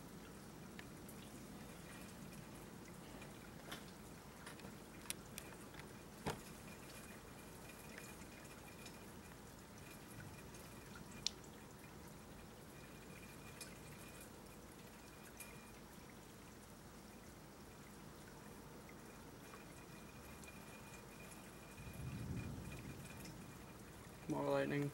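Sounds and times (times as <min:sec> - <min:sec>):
faint steady hiss: 0:00.0 - 0:24.9
rainwater drips ticking: 0:00.0 - 0:24.9.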